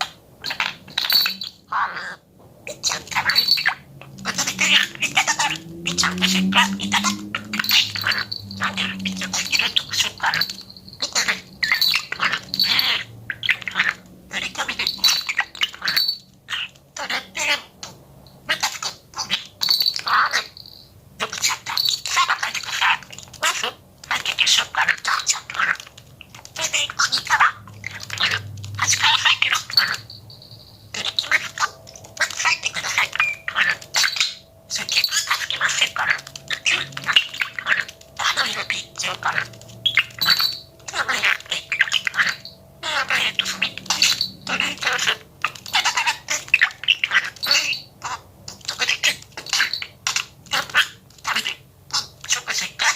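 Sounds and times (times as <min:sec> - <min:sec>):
budgerigar chirping and squawking: 0:00.0 - 0:17.9, 0:21.2 - 0:30.1, 0:31.0 - 0:52.9.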